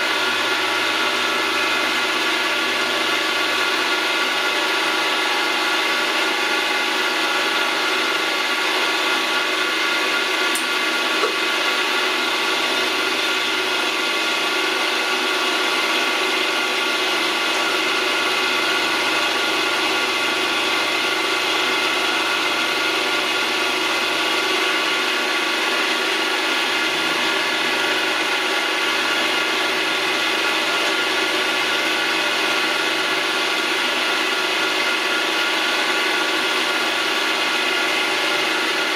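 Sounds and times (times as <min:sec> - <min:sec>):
milling machine whine: 0:00.0 - 0:38.9.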